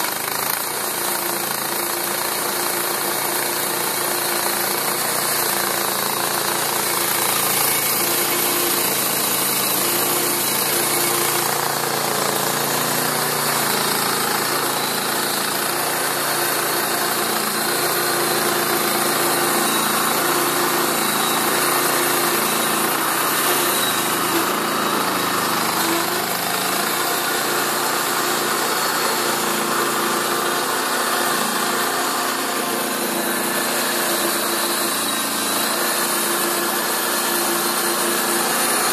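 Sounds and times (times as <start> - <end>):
band saw blade cutting wood: 0.0 - 38.9
small gasoline engine running: 0.0 - 38.9.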